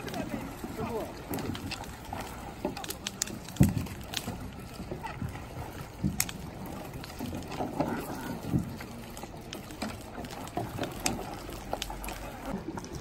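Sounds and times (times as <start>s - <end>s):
water lapping around hulls: 0.0s - 13.0s.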